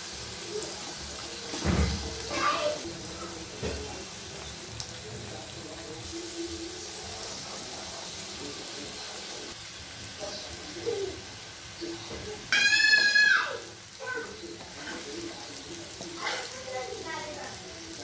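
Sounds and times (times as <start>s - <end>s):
potatoes sizzling in oil: 0.0s - 18.0s.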